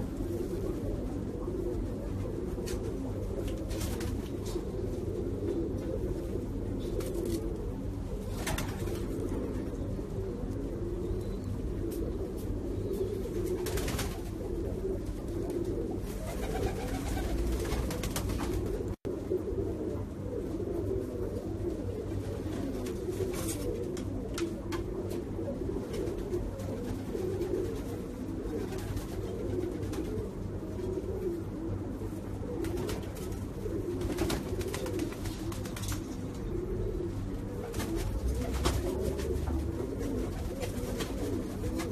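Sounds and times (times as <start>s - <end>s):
pigeons cooing: 0.0s - 41.9s.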